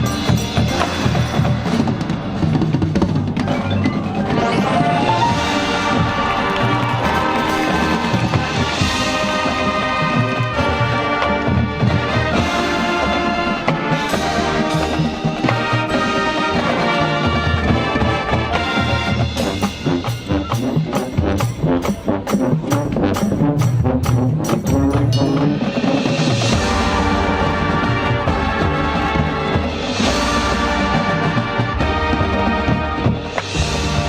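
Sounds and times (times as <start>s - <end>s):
sharp percussion hits: 0.0s - 10.6s, 12.3s - 34.0s
marching band playing: 0.0s - 34.0s.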